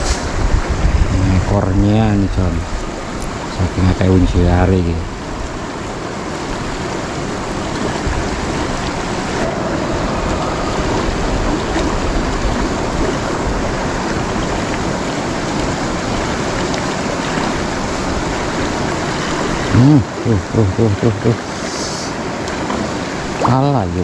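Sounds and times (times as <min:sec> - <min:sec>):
river water rushing over stones: 0:00.0 - 0:24.0.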